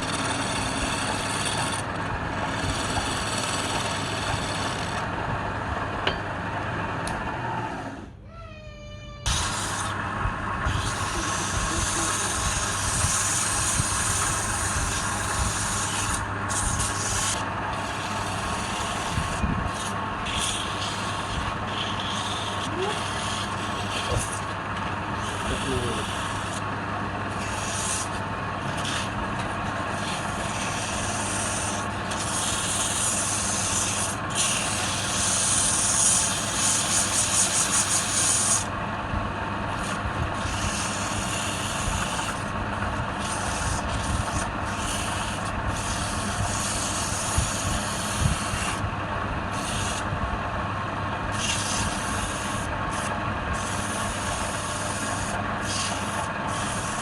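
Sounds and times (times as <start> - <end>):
rasping against spinning wood: 0.0 - 5.1, 9.3 - 38.8, 39.6 - 50.2, 51.2 - 57.0
wood lathe running: 0.0 - 8.0, 9.3 - 57.0.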